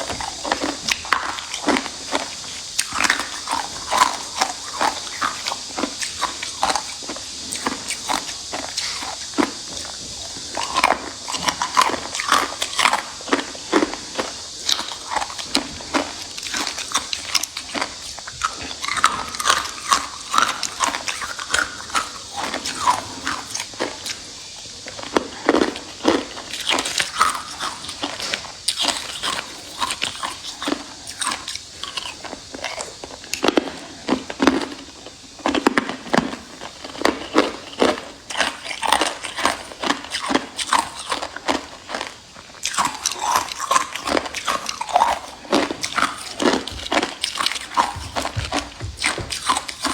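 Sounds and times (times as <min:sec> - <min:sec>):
person chewing hard ice: 0:00.0 - 0:49.9.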